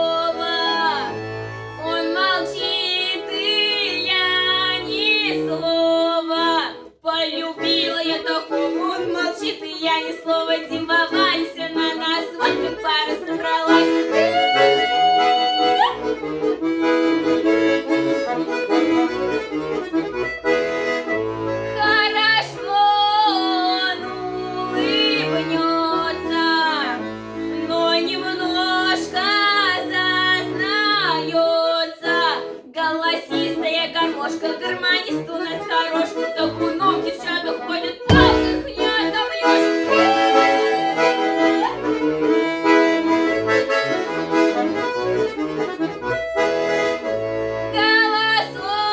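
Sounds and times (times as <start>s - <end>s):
accordion playing folk tune: 0.0s - 48.9s.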